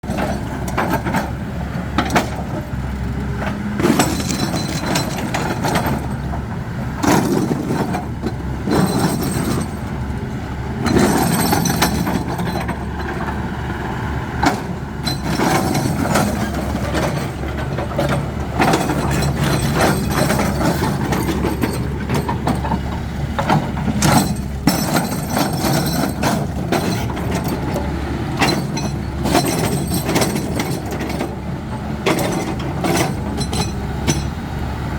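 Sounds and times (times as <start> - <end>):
heavy construction machine running: 0.0 - 34.9.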